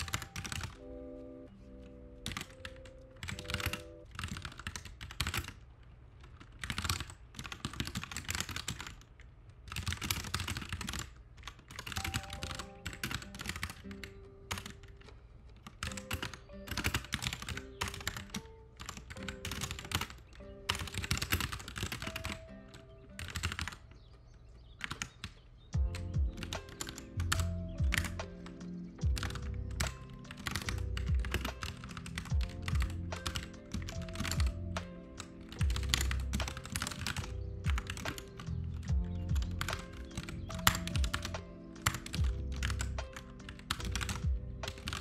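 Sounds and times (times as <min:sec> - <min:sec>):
computer keyboard typing: 0:00.0 - 0:45.0
soft lo-fi music: 0:00.0 - 0:45.0.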